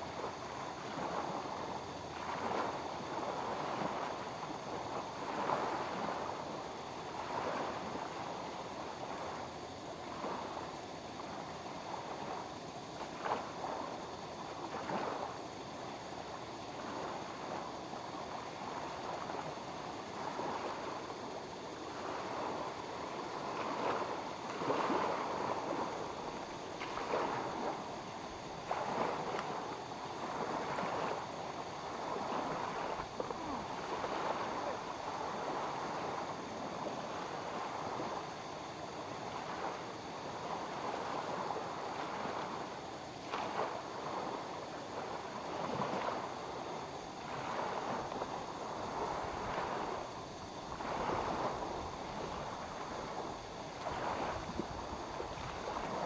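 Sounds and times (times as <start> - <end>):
small waves lapping at shore: 0.0 - 56.0.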